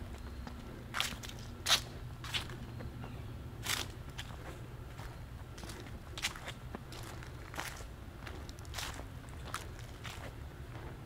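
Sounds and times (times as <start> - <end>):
footsteps crunching: 0.0 - 11.0.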